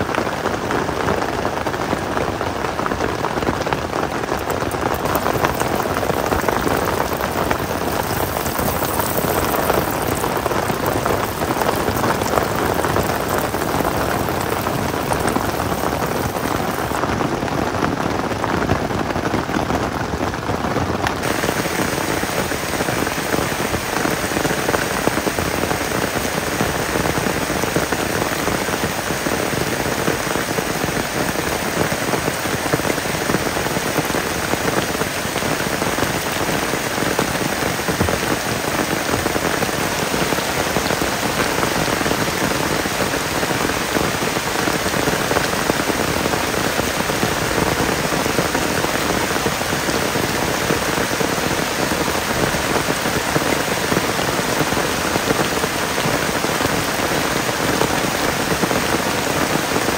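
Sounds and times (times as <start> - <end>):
heavy rain on forest floor: 0.0 - 59.9.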